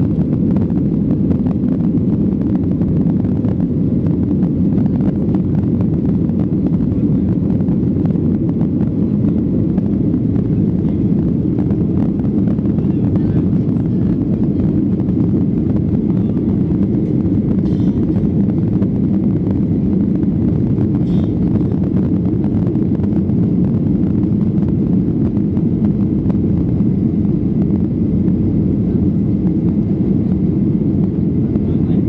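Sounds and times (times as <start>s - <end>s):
airplane cabin engine rumble: 0.0s - 32.0s.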